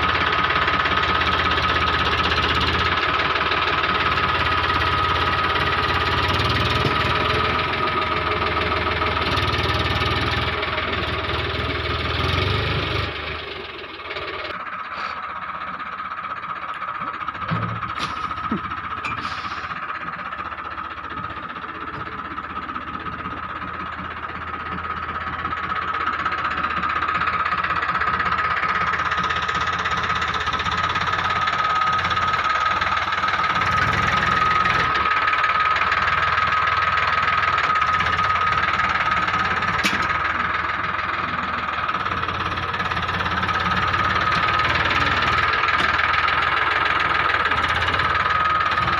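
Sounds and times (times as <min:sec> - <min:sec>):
tractor loader engine running: 0:00.0 - 0:48.9.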